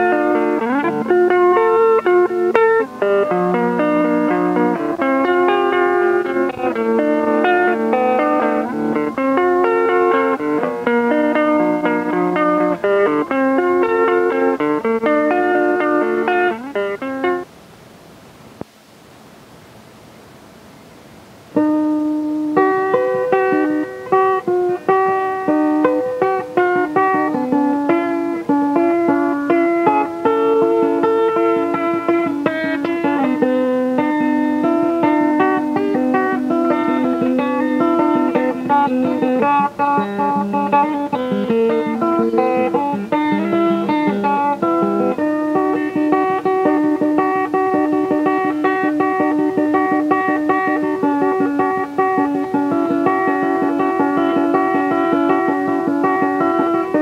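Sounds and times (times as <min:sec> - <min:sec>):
guitar picking melody: 0:00.0 - 0:17.5, 0:21.5 - 0:57.0.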